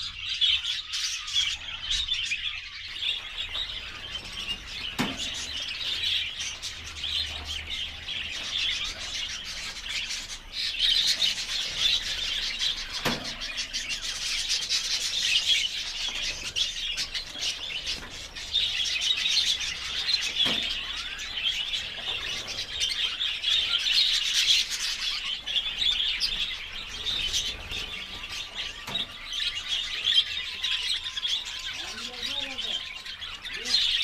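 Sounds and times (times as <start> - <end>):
lovebirds chattering: 0.0 - 34.0.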